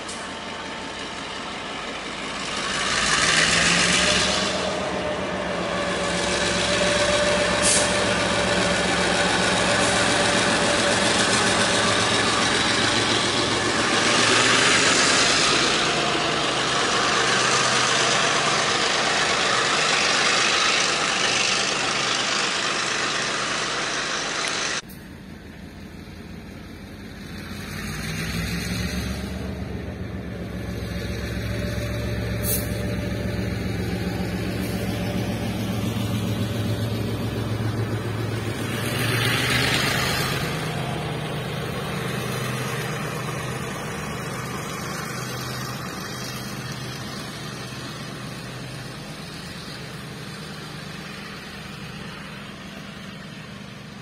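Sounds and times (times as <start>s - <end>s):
diesel locomotive engine drone: 0.0s - 54.0s
train wheels on rails: 0.0s - 54.0s.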